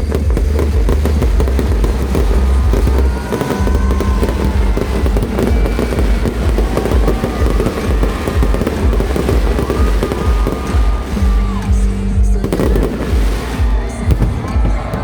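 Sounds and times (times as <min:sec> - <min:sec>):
fireworks bangs and crackles: 0:00.0 - 0:15.0
low booming: 0:00.0 - 0:15.0.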